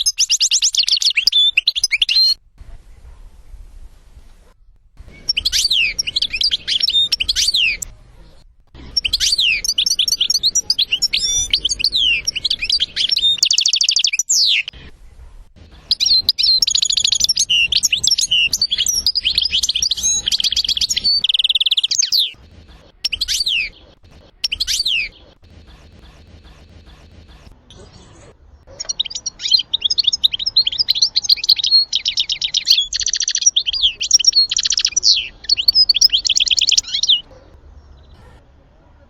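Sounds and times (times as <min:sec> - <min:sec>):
goldfinch singing: 0:00.0 - 0:02.4, 0:05.0 - 0:14.9, 0:15.7 - 0:28.0, 0:28.7 - 0:37.4
short bird calls: 0:00.0 - 0:38.5.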